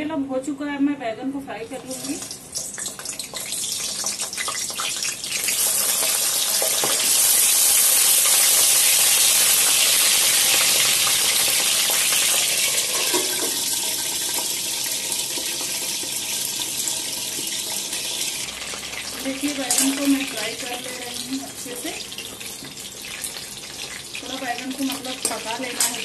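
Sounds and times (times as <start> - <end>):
vegetables sizzling in hot oil: 1.7 - 26.0.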